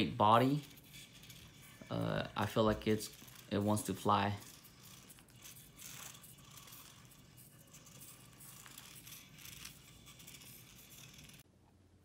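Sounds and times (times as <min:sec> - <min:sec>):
toy car gears rattling on tabletop: 0:00.0 - 0:11.4.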